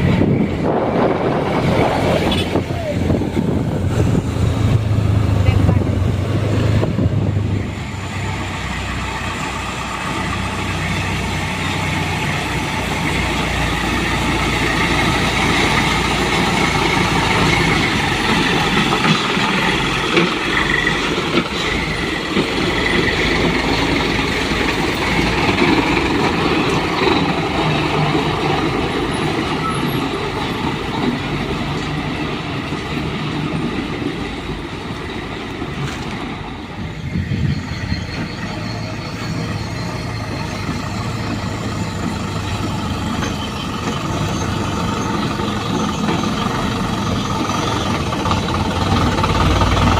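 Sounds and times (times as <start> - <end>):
truck engine humming: 0.0 - 49.9.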